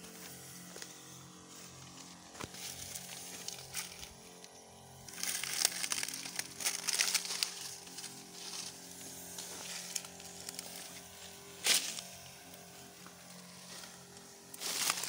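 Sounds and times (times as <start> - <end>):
dry leaves crackling and rustling: 1.6 - 4.2, 5.0 - 15.0.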